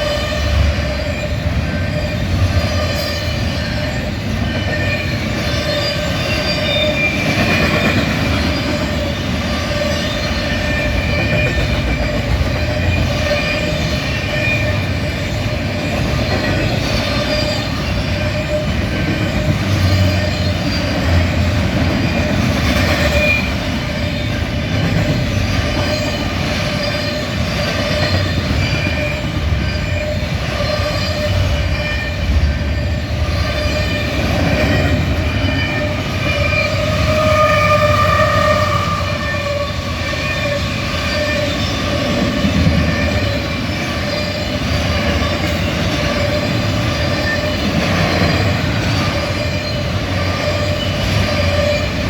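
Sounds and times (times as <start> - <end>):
freight train wheels rumbling: 0.0 - 52.0.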